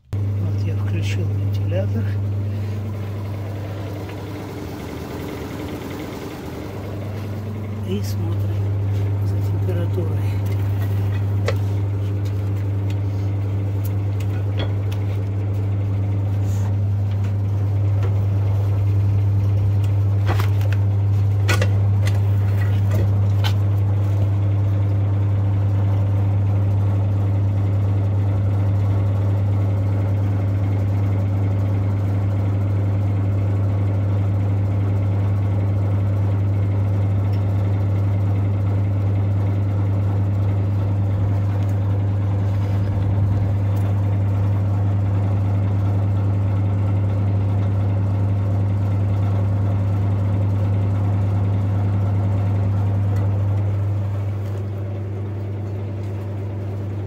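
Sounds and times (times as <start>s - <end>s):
electric fan running: 0.0s - 57.0s
loud mains hum: 0.0s - 57.0s.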